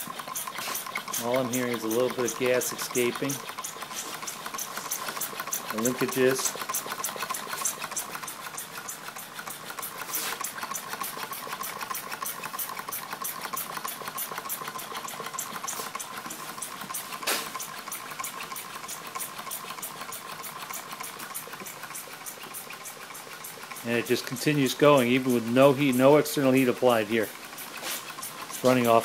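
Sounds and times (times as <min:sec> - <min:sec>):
engine linkages ticking: 0:00.0 - 0:29.0.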